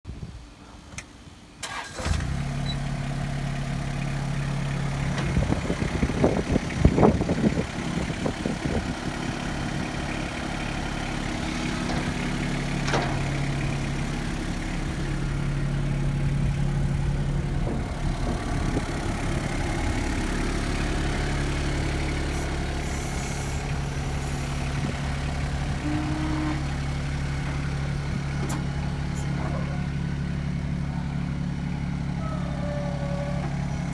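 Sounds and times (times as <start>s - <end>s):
tractor diesel engine idling: 1.6s - 33.9s.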